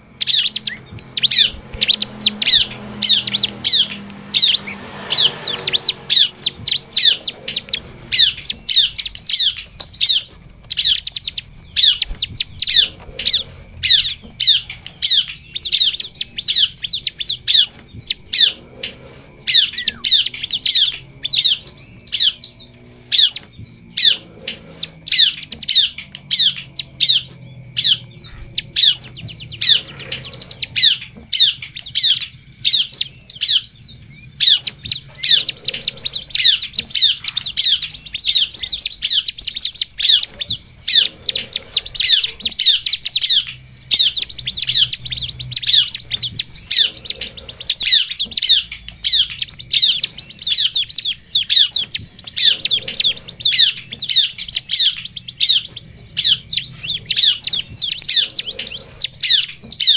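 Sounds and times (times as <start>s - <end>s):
bird singing high chirps: 0.0s - 59.9s.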